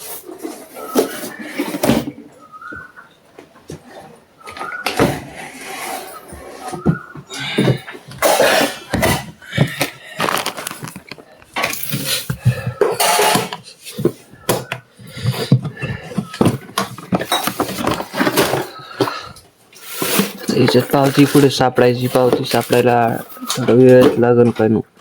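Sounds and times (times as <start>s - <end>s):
rummaging through a suitcase: 0.0s - 25.0s.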